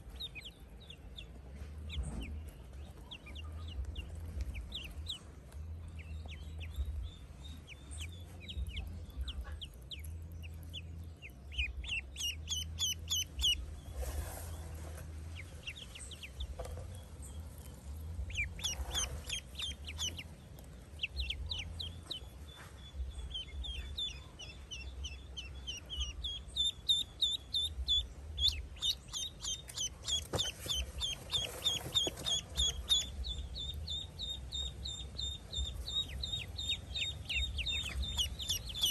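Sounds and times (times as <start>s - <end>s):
ducklings peeping: 0.0s - 38.9s
low steady hum: 0.0s - 38.9s.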